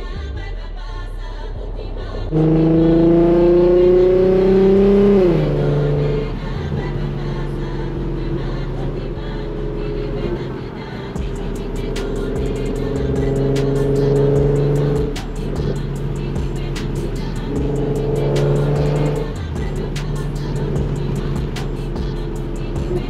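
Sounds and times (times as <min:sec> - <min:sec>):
car engine accelerating hard: 0:02.0 - 0:23.0.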